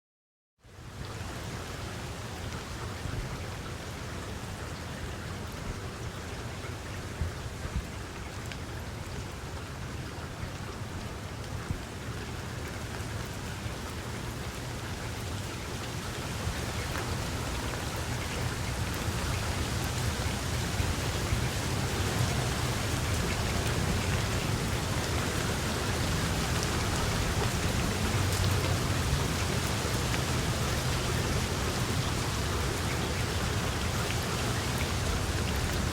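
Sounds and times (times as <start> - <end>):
raindrops hitting a surface: 0.6 - 35.9
steady rain falling: 0.6 - 35.9.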